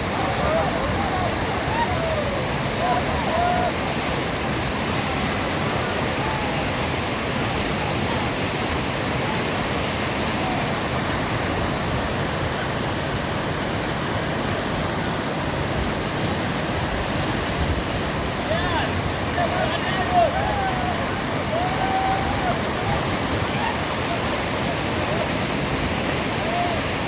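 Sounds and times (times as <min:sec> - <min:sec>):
fast-flowing whitewater rushing: 0:00.0 - 0:27.0.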